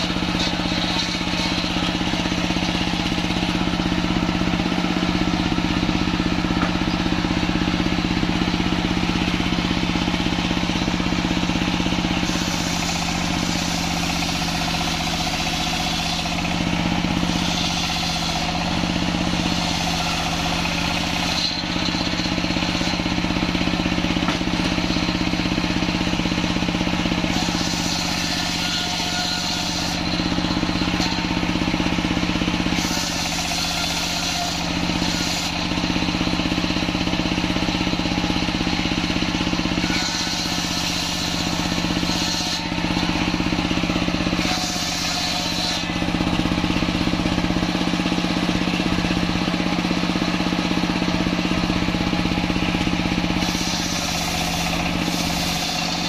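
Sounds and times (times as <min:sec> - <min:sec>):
diesel engine running: 0:00.0 - 0:56.0
saw blade cutting log: 0:00.0 - 0:56.0.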